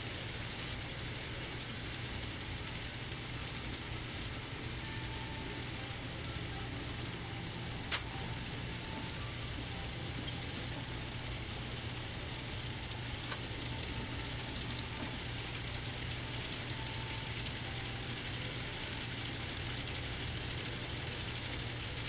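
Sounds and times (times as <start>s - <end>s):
model train motors whirring: 0.0s - 22.0s.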